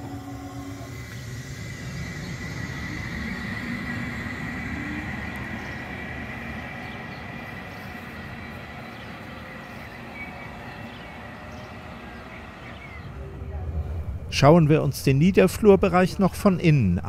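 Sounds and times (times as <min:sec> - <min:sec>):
tram high whine: 0:00.0 - 0:17.0
tram pulling away: 0:00.0 - 0:17.0.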